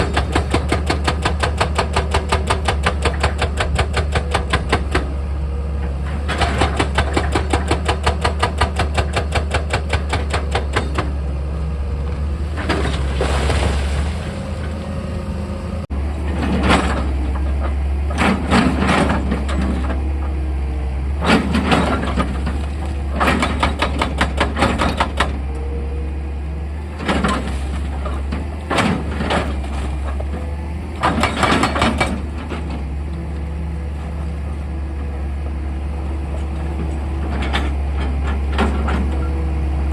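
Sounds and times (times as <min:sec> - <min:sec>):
excavator engine humming: 0:00.0 - 0:39.9.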